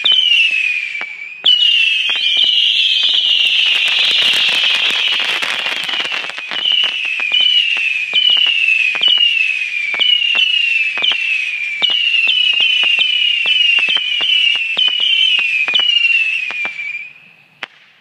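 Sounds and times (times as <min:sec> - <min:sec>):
whistling firework missiles: 0:00.0 - 0:18.0
firework pops: 0:02.0 - 0:11.2, 0:11.8 - 0:16.9, 0:17.6 - 0:18.0.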